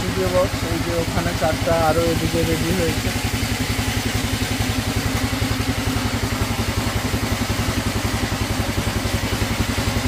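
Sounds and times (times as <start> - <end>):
small engine idling: 0.0 - 10.0.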